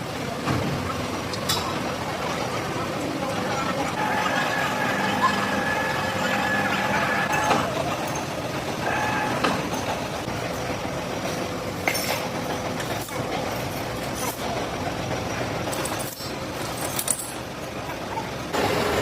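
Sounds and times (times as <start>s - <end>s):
machinery humming: 0.0s - 16.7s.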